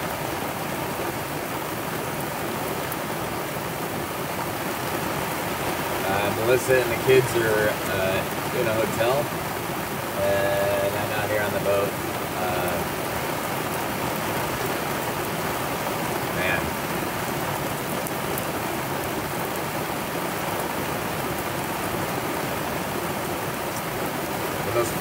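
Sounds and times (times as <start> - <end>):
heavy rain on boat enclosure: 0.0 - 25.0.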